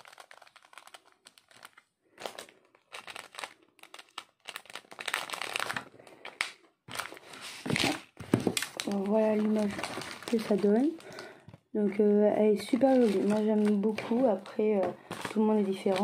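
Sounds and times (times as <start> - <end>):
plastic packaging crinkling: 0.0 - 11.5, 12.5 - 16.0.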